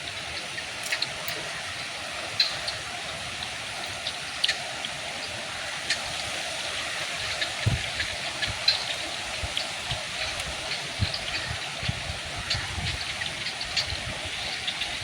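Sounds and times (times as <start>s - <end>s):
water drips and splashes: 0.0s - 15.0s.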